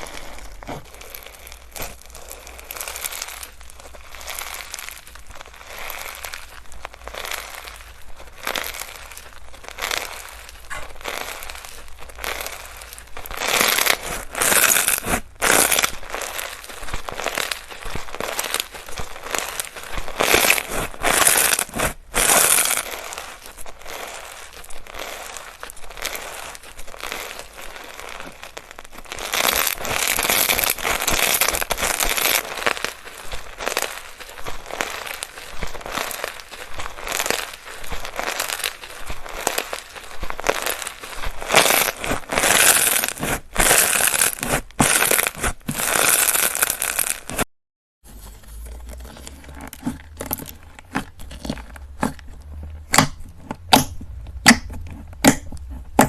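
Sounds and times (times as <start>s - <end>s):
slime squished by hand: 0.0s - 47.4s, 48.4s - 56.0s.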